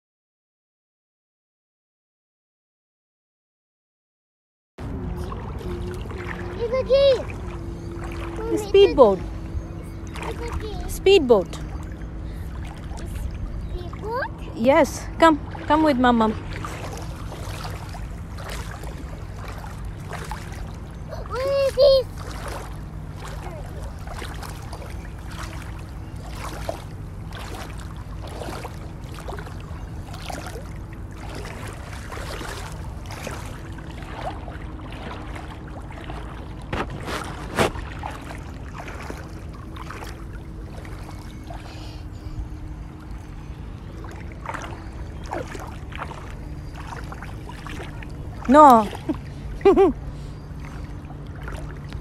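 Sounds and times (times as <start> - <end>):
low rumble: 4.8 - 49.6
faint hum: 4.8 - 52.0
water sloshing around wading feet: 4.8 - 52.0.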